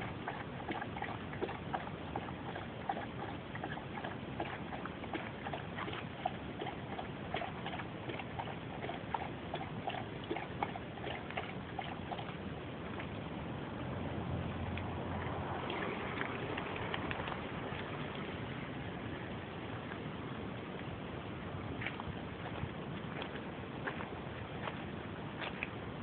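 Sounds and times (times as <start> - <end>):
puppy lapping water: 0.0 - 26.0.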